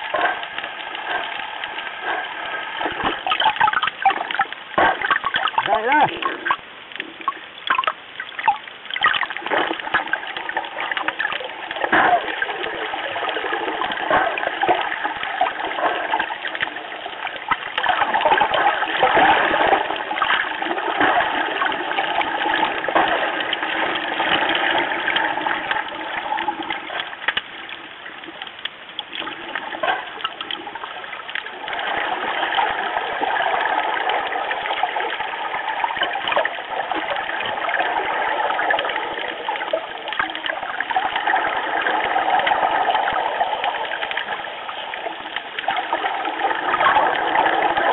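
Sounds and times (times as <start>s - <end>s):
water rushing underwater: 0.0s - 47.9s.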